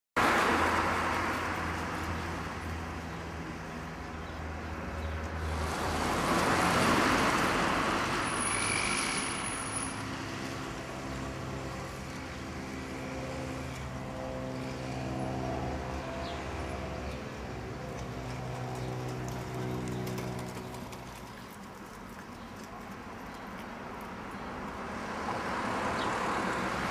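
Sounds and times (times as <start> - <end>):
car passing: 0.2 - 22.5, 24.3 - 26.9
road traffic: 0.2 - 26.9.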